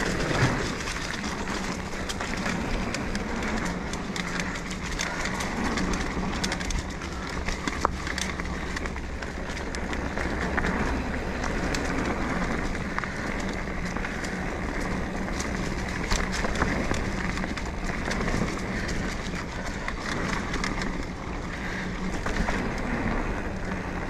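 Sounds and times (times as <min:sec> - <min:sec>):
bike clicks and rattles: 0:00.0 - 0:24.0
tyre and wind noise: 0:00.0 - 0:24.0.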